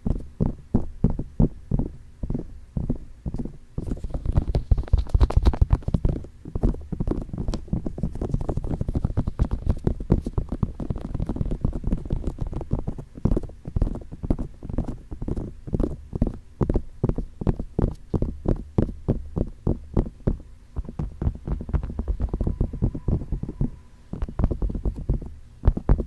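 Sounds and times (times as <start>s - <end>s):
fingertips tapping on microphone: 0.0s - 26.0s.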